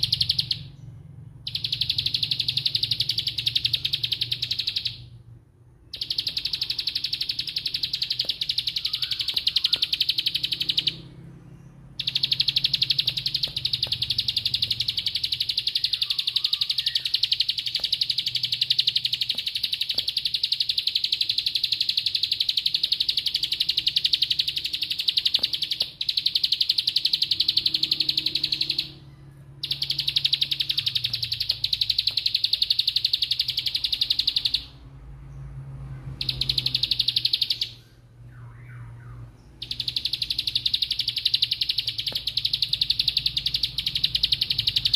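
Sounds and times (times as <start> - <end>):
bird singing fast trill: 0.0 - 5.2, 5.8 - 35.4, 36.0 - 44.9.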